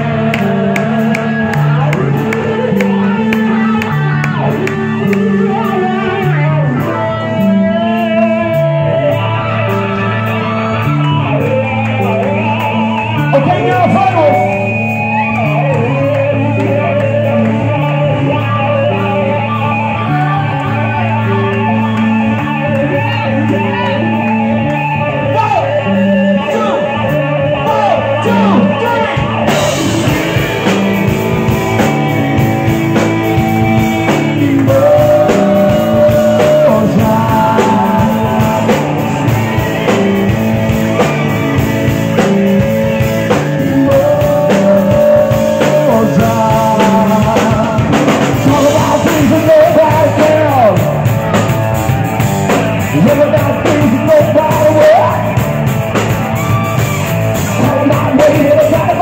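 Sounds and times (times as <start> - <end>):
man singing into a microphone: 0.0 - 51.4, 52.8 - 55.4, 57.4 - 59.0
bass guitar: 0.0 - 59.0
drum kit: 0.0 - 59.0
electric guitar: 0.0 - 59.0.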